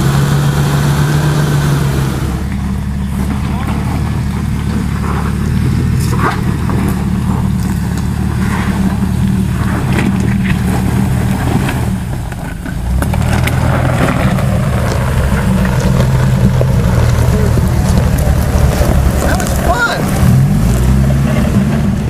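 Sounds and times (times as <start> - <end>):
stones crunching under tyres: 0.0 - 21.8
car engine running at low revs: 0.0 - 22.0.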